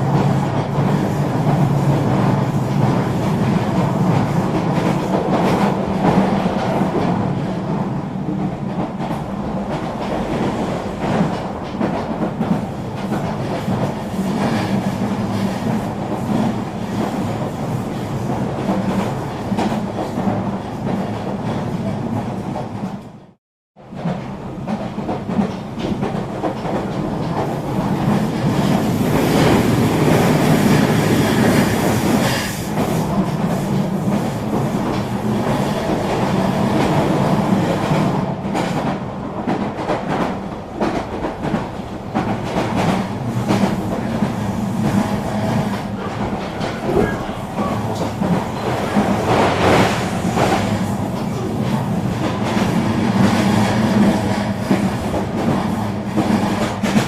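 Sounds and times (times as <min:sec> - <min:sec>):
train carriage rumble and hum: 0:00.0 - 0:57.0.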